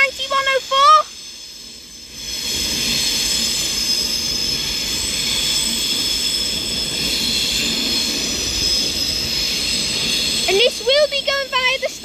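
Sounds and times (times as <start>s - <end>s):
high-pitched train squeal: 0.0s - 12.0s
low train rumble: 0.0s - 12.0s.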